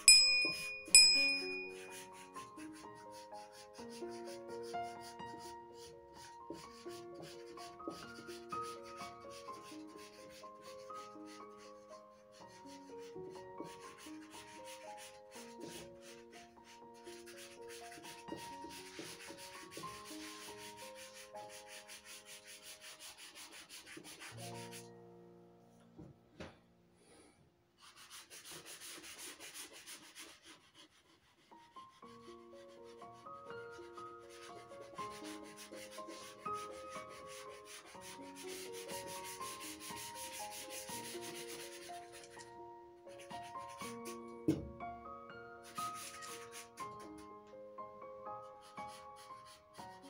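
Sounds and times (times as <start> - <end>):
charcoal scratching on paper: 0.0 - 24.9, 27.8 - 42.5, 43.2 - 44.6, 45.6 - 47.3, 48.4 - 50.0
soft melodic background music: 0.0 - 27.0, 27.8 - 50.0.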